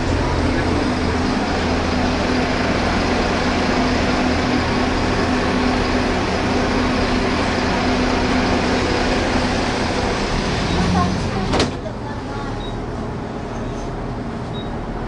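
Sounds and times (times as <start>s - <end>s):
tram equipment hum and hiss: 0.0s - 15.0s.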